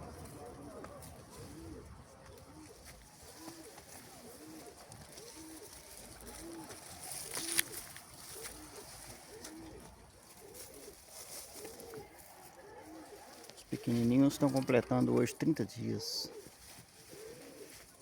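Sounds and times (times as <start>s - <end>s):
pigeon cooing: 0.0s - 18.0s.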